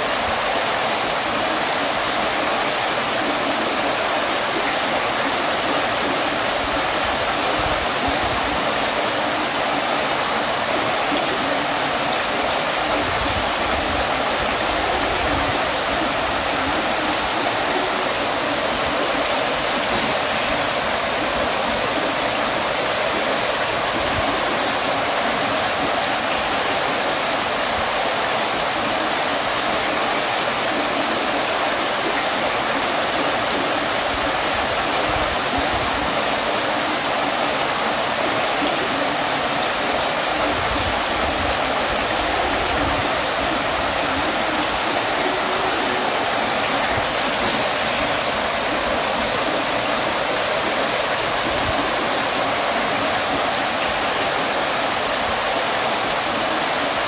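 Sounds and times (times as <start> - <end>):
water fountain splashing: 0.0 - 57.0.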